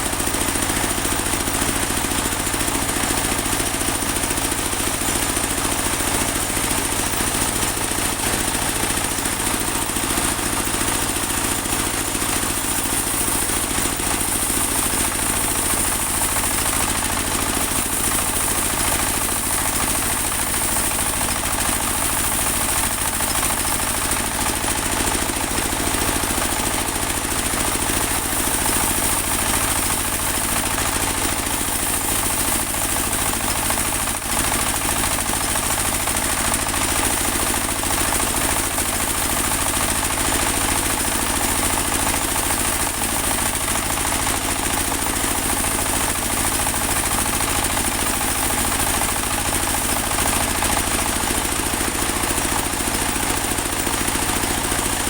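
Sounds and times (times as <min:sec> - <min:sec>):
bandsaw sawmill engine running: 0:00.0 - 0:55.0.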